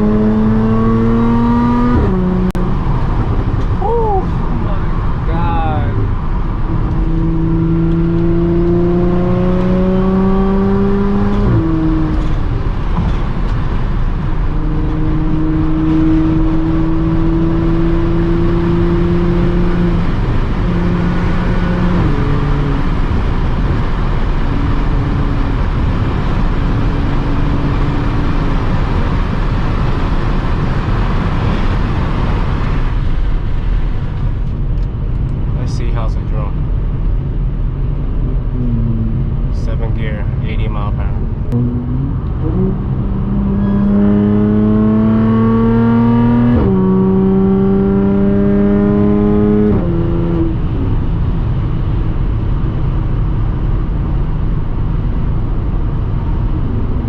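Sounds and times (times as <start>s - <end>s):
car exhaust accelerating: 0.0s - 57.0s.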